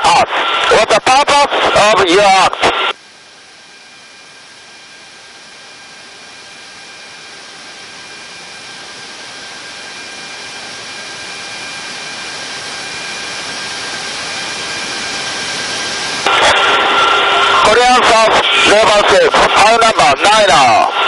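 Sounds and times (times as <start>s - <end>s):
aircraft engines droning in cabin: 0.0s - 21.0s
thin steady engine whine: 0.0s - 21.0s.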